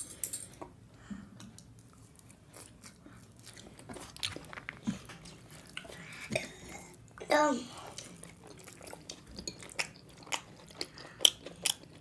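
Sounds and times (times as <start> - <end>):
person chewing food: 1.4 - 7.2, 7.8 - 12.0.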